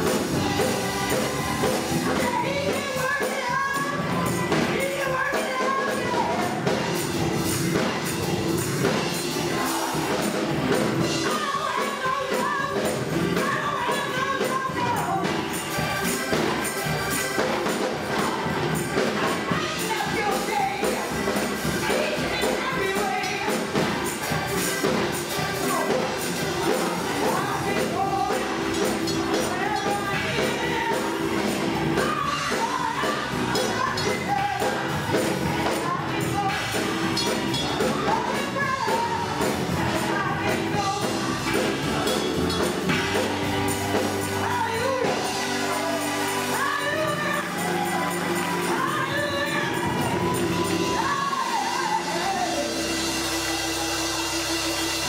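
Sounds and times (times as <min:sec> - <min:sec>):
band accompaniment: 0:00.0 - 0:55.0
gospel choir singing: 0:00.0 - 0:55.0
shaken tambourine: 0:00.0 - 0:55.0.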